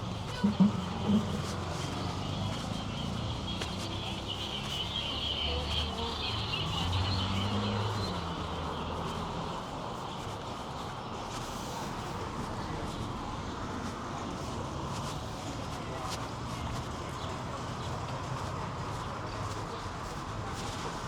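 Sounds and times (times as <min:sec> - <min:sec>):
faint voices: 0:00.0 - 0:21.0.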